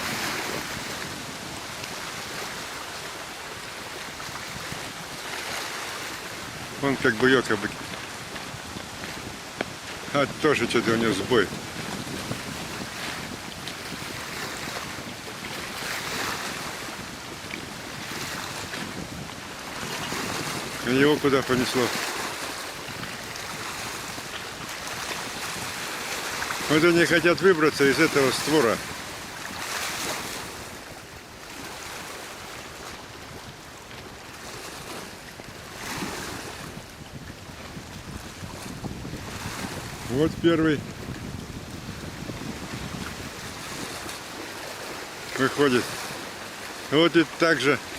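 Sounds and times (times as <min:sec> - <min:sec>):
small waves splashing: 0:00.0 - 0:47.9
wind buffeting microphone: 0:00.0 - 0:47.9.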